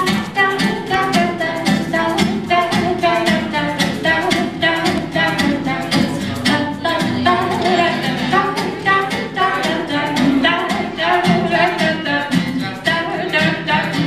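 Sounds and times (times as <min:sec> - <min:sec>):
acoustic guitar: 0:00.0 - 0:14.0
people singing: 0:00.0 - 0:14.0.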